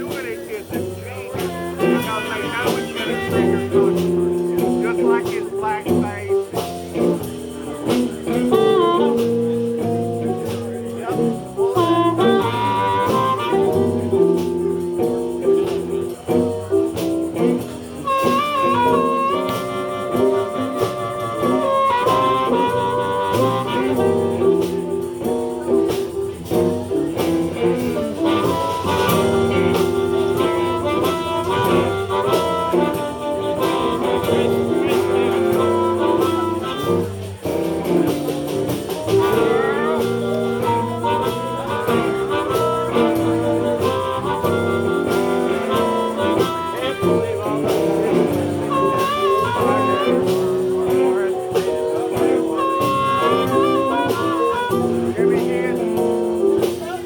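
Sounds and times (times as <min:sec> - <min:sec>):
blues band playing: 0:00.0 - 0:57.0
lead instrument soloing: 0:00.0 - 0:57.0.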